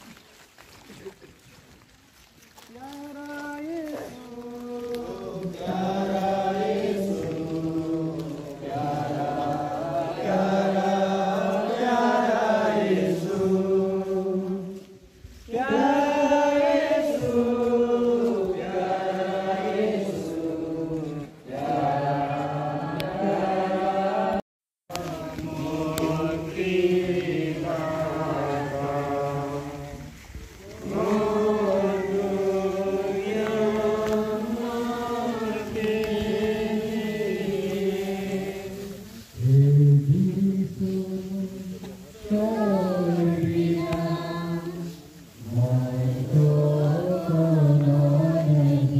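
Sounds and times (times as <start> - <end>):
congregation singing a hymn: 4.0 - 48.9.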